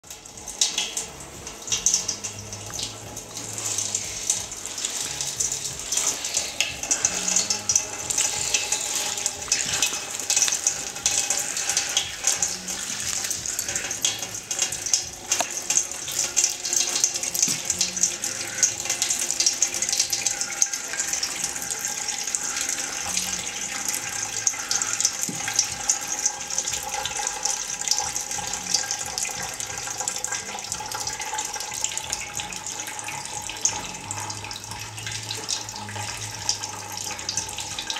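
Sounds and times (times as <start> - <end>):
juice trickling into a pot: 0.0 - 37.9.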